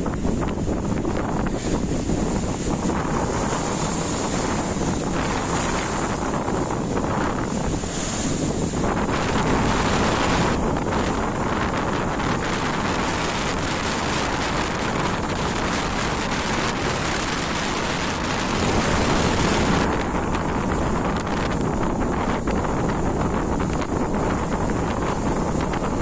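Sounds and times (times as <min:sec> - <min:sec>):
storm surf breaking against wall: 0:00.0 - 0:26.0
wind buffeting microphone: 0:00.0 - 0:26.0.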